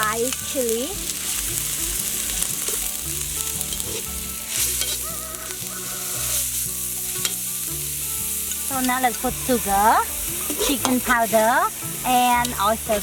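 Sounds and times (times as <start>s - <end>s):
chilies sizzling in hot oil: 0.0s - 13.0s.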